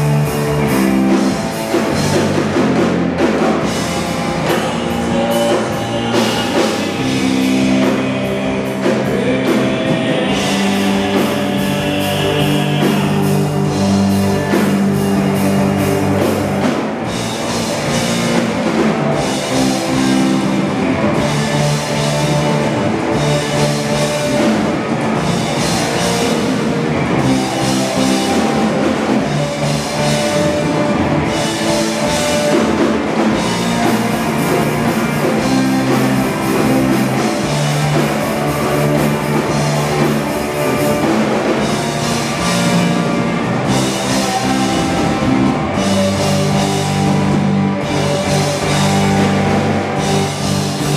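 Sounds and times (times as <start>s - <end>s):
drum kit and cymbals: 0.0s - 50.9s
electric guitars sustained chords: 0.0s - 50.9s.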